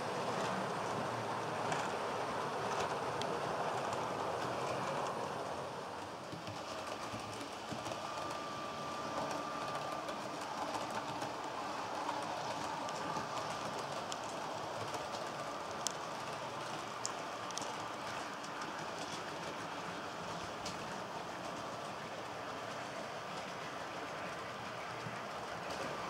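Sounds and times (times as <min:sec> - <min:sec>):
model train running on track: 0:00.0 - 0:26.0.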